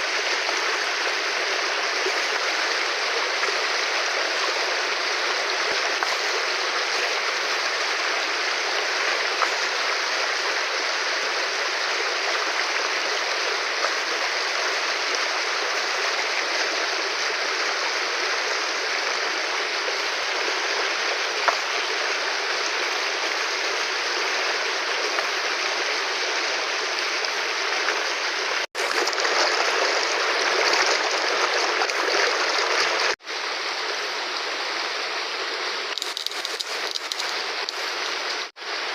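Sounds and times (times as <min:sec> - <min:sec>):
fast-flowing river rushing: 0:00.0 - 0:38.9.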